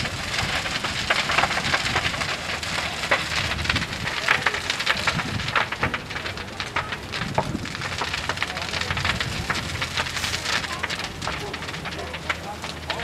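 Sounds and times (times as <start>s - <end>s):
fire crackling and popping: 0.0s - 13.0s
fire rushing noise: 0.0s - 13.0s.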